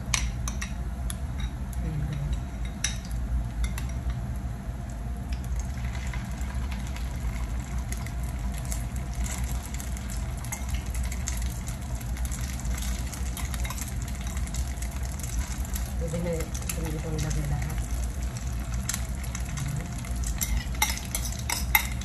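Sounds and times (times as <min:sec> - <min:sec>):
patties sizzling in oil: 0:03.0 - 0:22.0.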